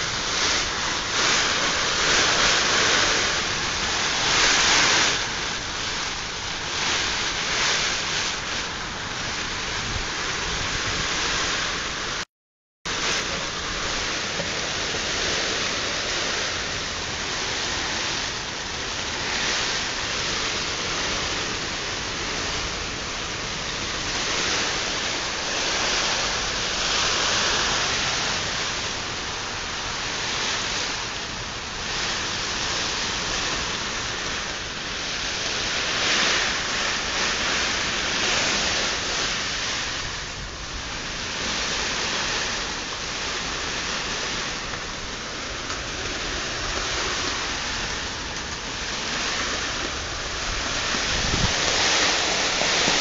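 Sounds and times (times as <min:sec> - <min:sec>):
heavy rain pouring: 0:00.0 - 0:12.3, 0:12.9 - 0:53.0.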